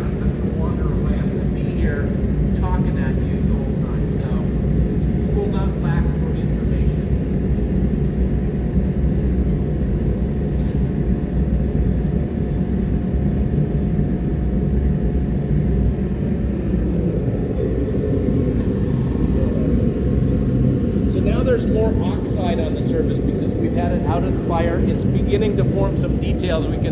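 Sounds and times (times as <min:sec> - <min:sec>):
forge low rumble: 0:00.0 - 0:26.9.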